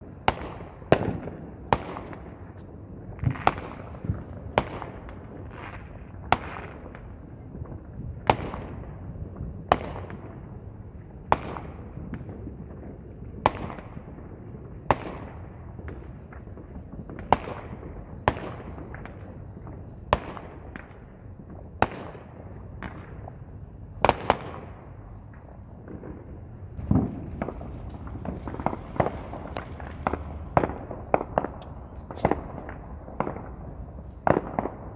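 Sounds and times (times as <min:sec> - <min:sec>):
crackling firework pops: 0:00.0 - 0:10.5, 0:11.3 - 0:23.4, 0:24.0 - 0:34.9
fireworks bangs: 0:00.0 - 0:34.9.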